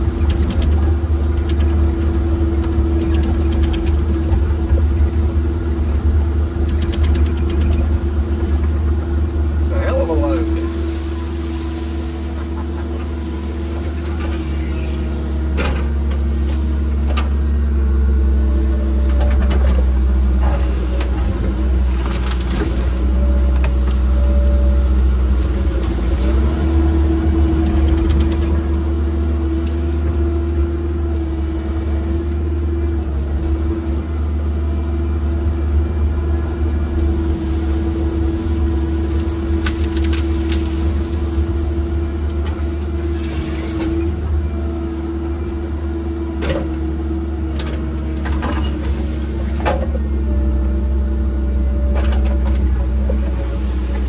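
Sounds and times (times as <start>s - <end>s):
engine humming: 0.0s - 54.0s.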